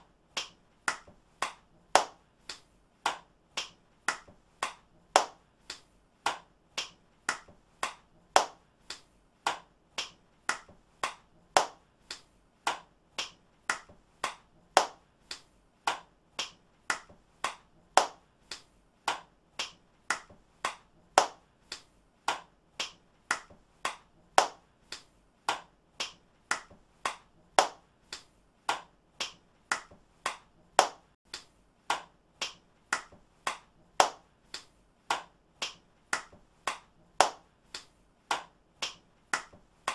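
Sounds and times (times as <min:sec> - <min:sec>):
hands clapping: 0:00.0 - 0:39.9.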